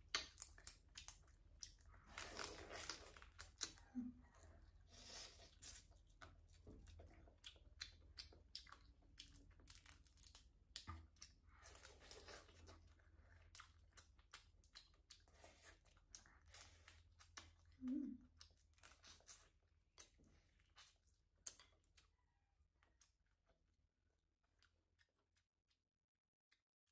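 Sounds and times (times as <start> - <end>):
wet chewing and lip smacks: 0.0 - 25.8.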